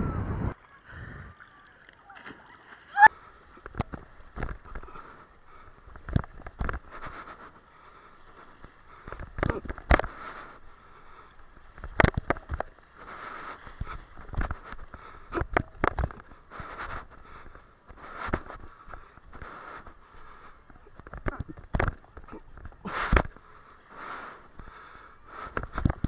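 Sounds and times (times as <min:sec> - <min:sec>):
water sloshing and gurgling: 0:00.6 - 0:23.8.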